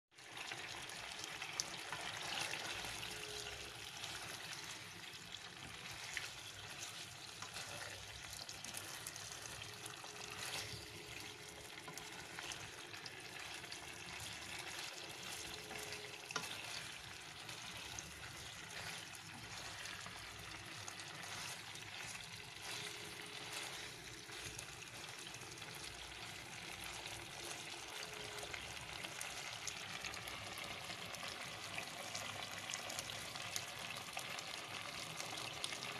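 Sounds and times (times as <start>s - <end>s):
chicken wings sizzling in oil: 0.1s - 35.9s.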